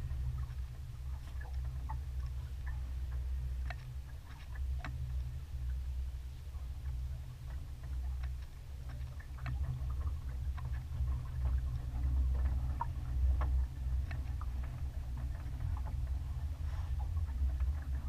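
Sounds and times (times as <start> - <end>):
light ticks and taps: 0.1 - 5.8, 6.6 - 18.0.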